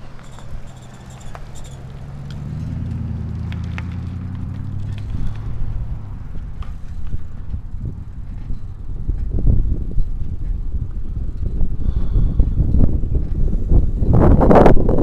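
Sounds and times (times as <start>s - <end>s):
motor vehicle passing: 0.0s - 14.9s.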